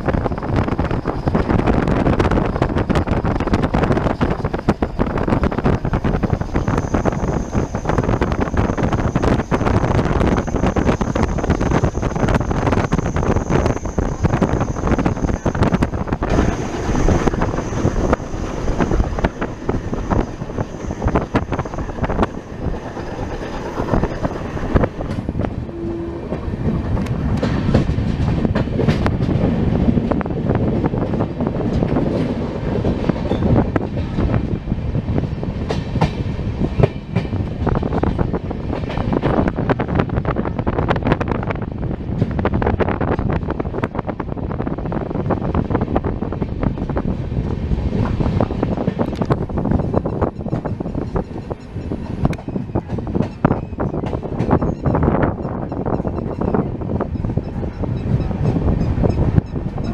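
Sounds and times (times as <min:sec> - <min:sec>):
train wheels rumbling and clacking: 0:00.0 - 0:59.9
wind rushing past: 0:00.0 - 0:59.9.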